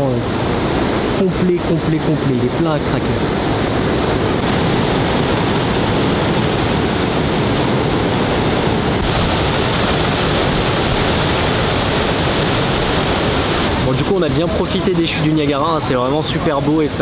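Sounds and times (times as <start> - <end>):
waterfall roaring: 0.0 - 17.0
wind on microphone: 0.0 - 17.0.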